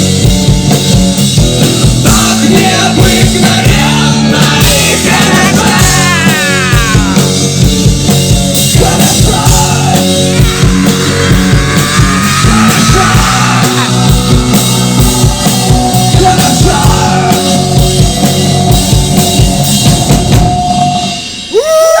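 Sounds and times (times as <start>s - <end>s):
driving drum beat: 0.0s - 22.0s
live rock band playing: 0.0s - 22.0s.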